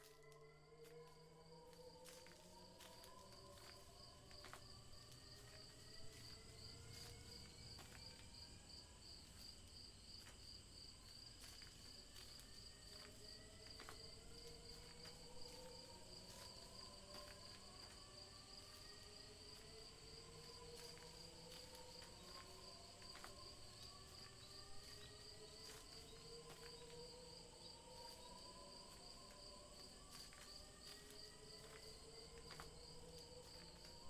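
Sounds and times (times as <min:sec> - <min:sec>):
cricket chirping: 0:00.0 - 0:34.0.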